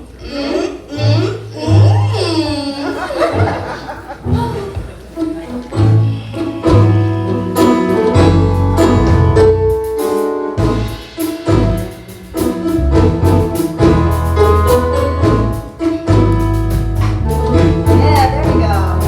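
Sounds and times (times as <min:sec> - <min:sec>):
live band music: 0:03.4 - 0:19.0.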